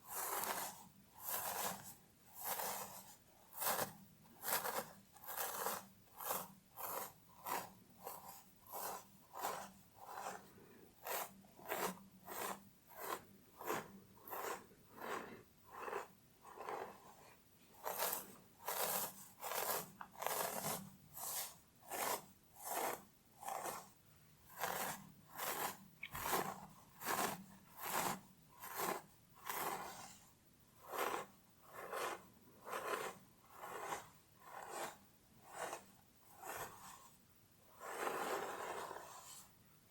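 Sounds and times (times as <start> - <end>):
fingernails scratching through hair: 0.1 - 23.9, 24.5 - 30.2, 30.8 - 37.1, 37.8 - 39.5.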